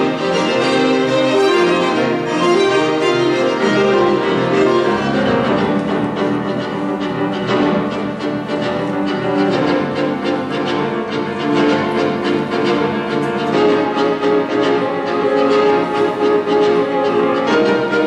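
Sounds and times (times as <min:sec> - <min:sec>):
piano: 0:00.0 - 0:18.0
saxophone: 0:00.0 - 0:18.0
violin: 0:00.0 - 0:18.0.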